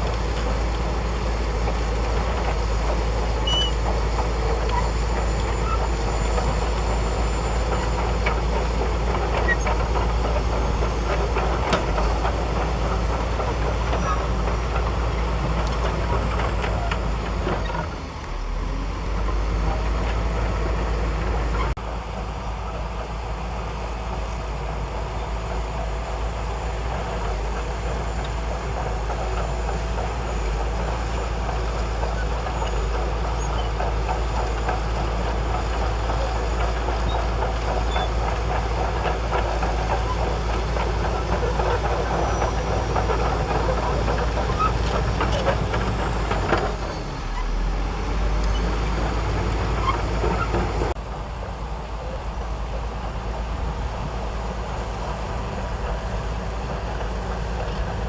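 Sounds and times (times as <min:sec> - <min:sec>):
bulldozer diesel engine rumbling: 0:00.0 - 0:58.0
engine rattle: 0:00.0 - 0:58.0.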